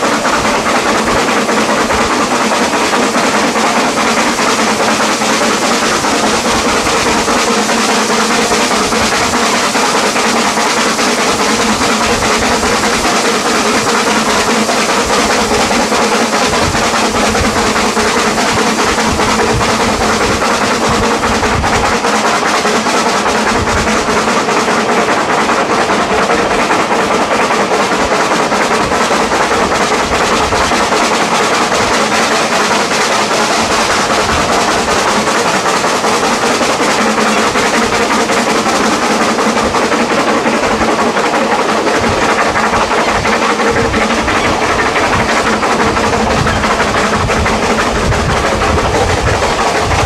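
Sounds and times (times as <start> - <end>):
carriage wheels on rails: 0.0 - 50.0
rushing air: 0.0 - 50.0
steam locomotive exhaust: 0.0 - 50.0.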